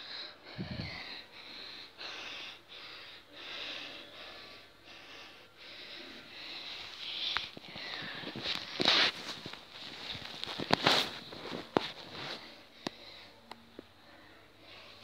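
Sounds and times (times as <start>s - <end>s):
person breathing fast and hard: 0.0s - 15.0s.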